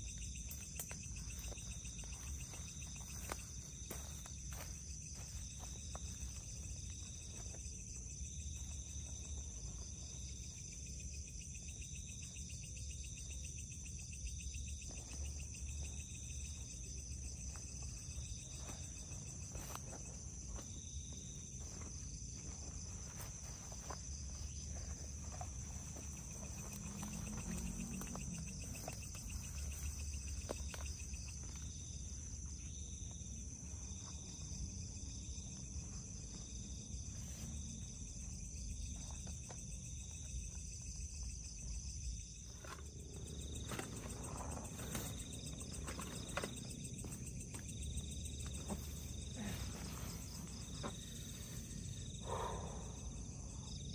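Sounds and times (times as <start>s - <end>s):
crickets trilling: 0.0s - 53.9s
pulsing insect call: 0.0s - 53.9s.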